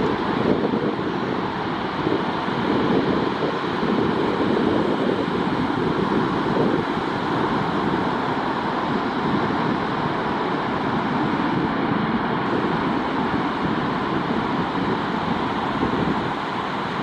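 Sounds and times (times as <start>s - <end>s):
surf breaking on beach: 0.0s - 17.0s
wind on microphone: 0.0s - 17.0s.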